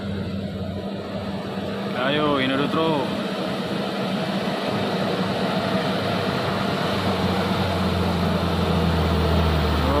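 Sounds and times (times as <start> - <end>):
truck diesel engine pulling: 0.0 - 10.0.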